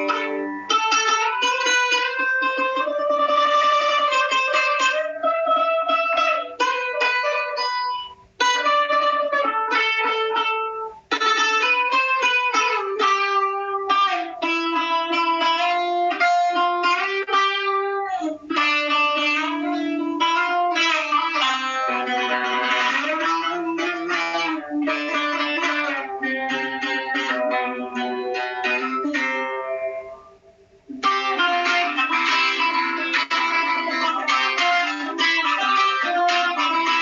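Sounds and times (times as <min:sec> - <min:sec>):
plucked lute melody: 0:00.0 - 0:37.0.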